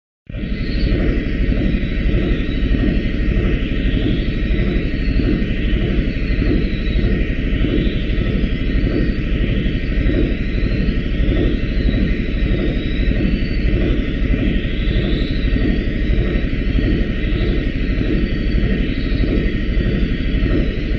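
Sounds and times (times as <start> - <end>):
high machine whine: 0.3 - 20.9
machine rumble: 0.3 - 20.9.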